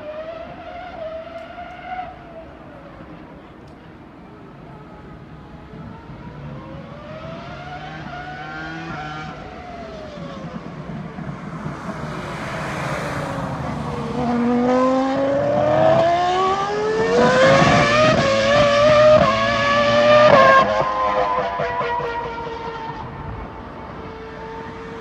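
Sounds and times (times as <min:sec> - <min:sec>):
racing car engine: 0:00.0 - 0:25.0.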